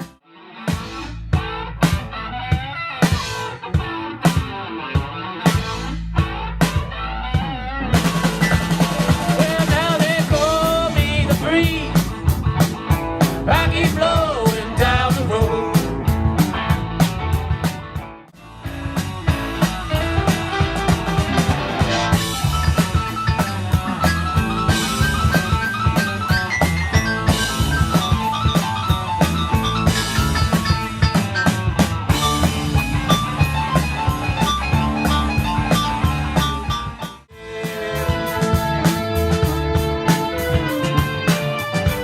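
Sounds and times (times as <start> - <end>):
rock band playing instrumental: 0.0 - 42.0.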